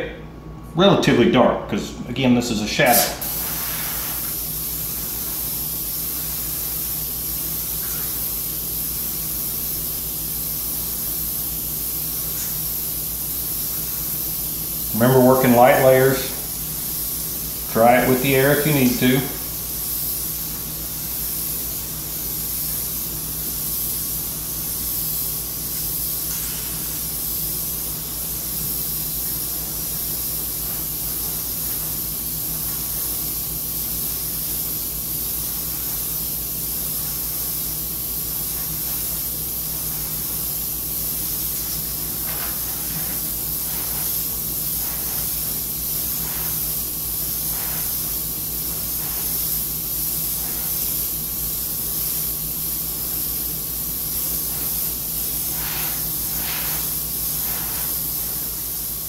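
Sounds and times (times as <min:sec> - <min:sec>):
airbrush hissing: 0:02.8 - 0:59.0.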